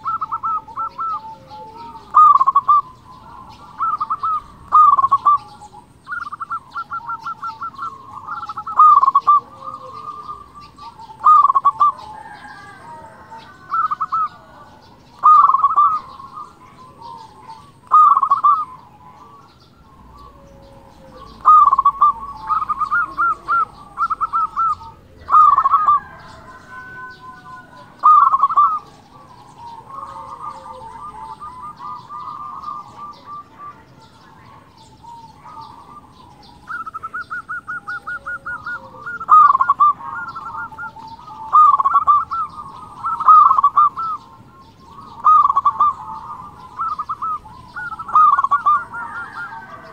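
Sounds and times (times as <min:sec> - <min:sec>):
dove rolling coos: 0:00.0 - 0:49.9
soft dove trills: 0:00.0 - 0:49.9.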